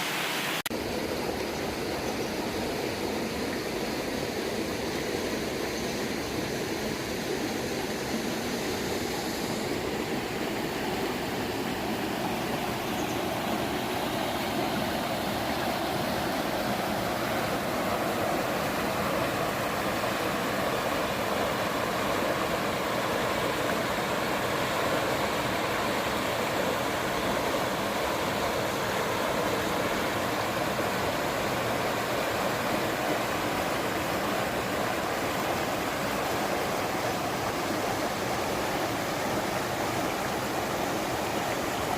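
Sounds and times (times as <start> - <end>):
rushing stream water: 0.0 - 41.9.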